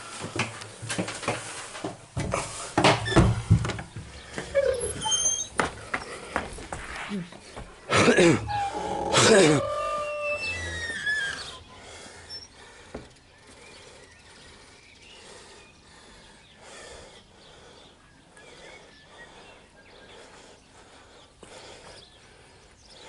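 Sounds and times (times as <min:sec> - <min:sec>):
birds chirping: 0:02.2 - 0:23.0.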